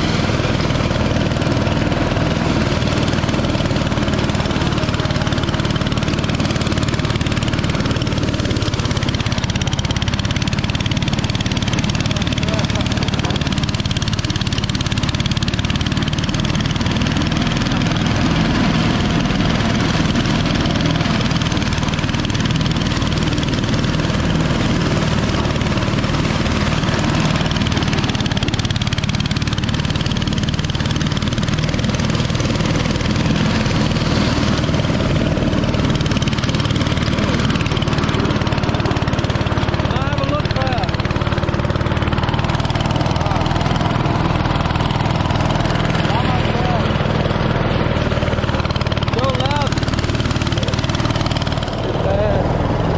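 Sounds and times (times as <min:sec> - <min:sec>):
machine engine drone: 0:00.0 - 0:52.9
machinery rattling: 0:00.0 - 0:52.9.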